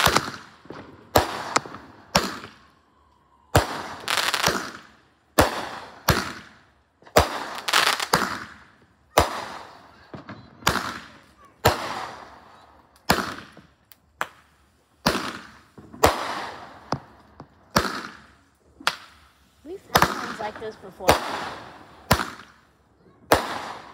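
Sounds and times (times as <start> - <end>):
fireworks bangs and crackle: 0.0 - 23.9.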